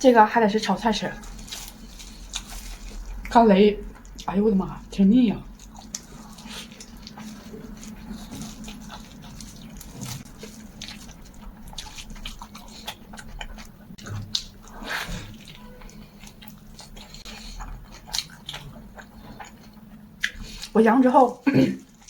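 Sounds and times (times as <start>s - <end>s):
steady low hum: 0.0s - 22.0s
chewing and mouth smacks: 1.2s - 4.4s, 5.4s - 20.8s.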